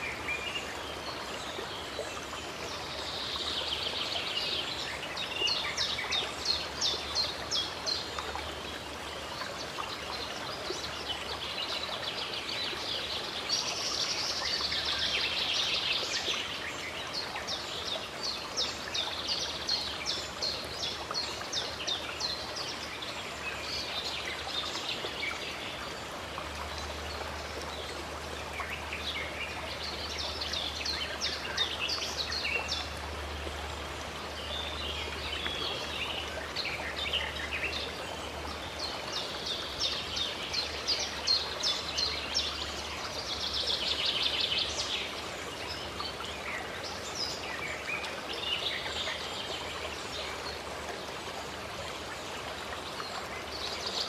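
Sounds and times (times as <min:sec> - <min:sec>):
running stream water: 0:00.0 - 0:54.0.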